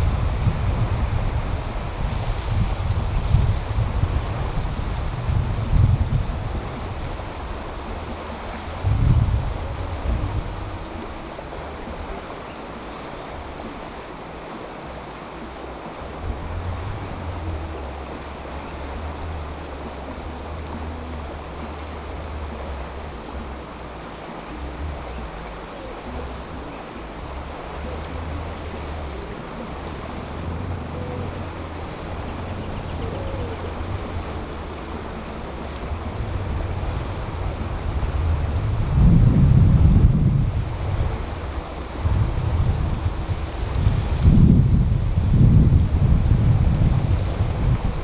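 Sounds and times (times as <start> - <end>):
insects droning: 0.0 - 48.0
wind rumbling on microphone: 0.0 - 48.0.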